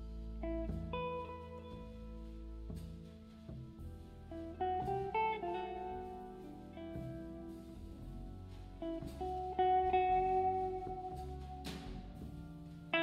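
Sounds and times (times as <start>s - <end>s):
double bass: 0.0s - 13.0s
drums: 0.0s - 13.0s
guitar melody: 0.0s - 13.0s
organ: 0.0s - 13.0s.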